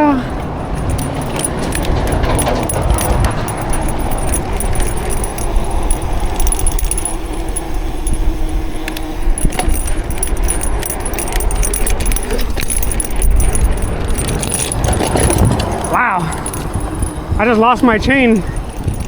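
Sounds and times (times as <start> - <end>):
bike chain rattling: 0.0 - 19.0
wind rumble on microphone: 0.0 - 19.0.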